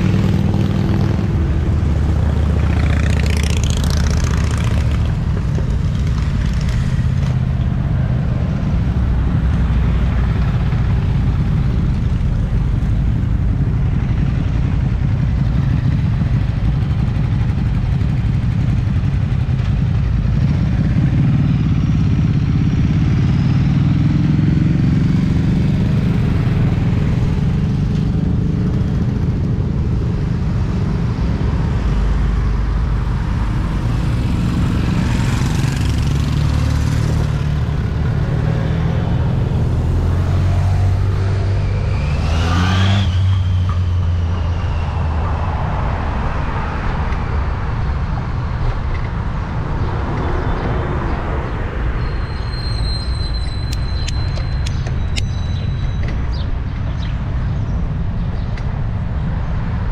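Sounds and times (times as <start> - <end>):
motorcycle engines running: 0.0 - 59.9.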